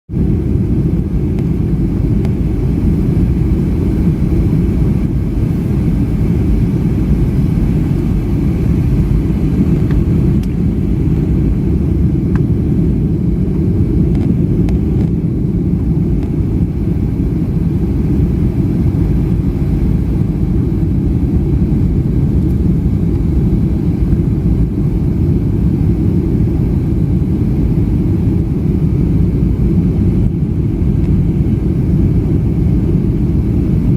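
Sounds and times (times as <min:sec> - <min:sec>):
airplane engines rumbling in cabin: 0:00.1 - 0:33.9.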